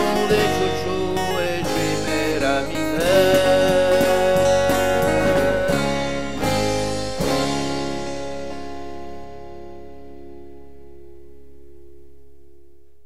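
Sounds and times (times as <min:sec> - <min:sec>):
rock band playing: 0:00.0 - 0:11.2.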